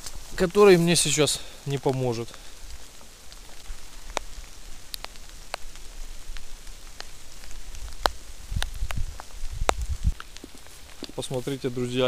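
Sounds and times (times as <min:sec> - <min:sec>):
raindrops ticking close by: 0:00.0 - 0:12.0
steady rain hiss: 0:00.0 - 0:12.0.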